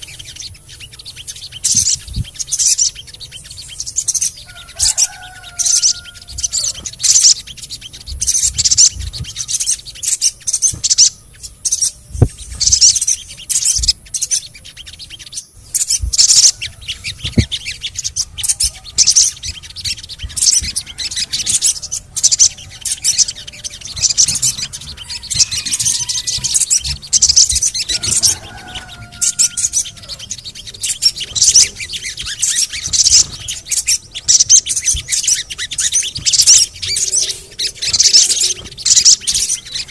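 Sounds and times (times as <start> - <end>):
bird chirping high-pitched notes: 0.0 - 39.9.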